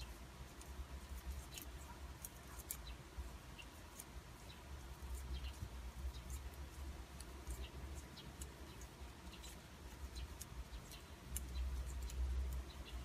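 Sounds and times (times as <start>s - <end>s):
knitting needles clicking: 0.0s - 13.0s.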